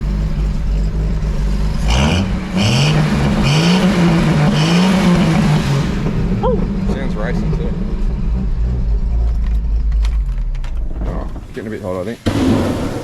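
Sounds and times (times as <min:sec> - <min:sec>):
vehicle engine revving: 0:00.0 - 0:11.6.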